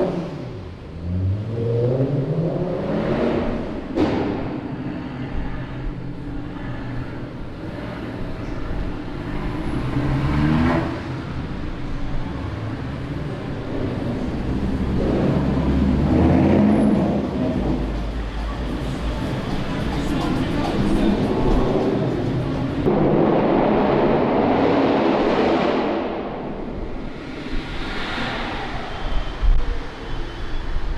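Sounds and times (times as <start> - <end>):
car engines revving and passing: 0.0 - 30.8.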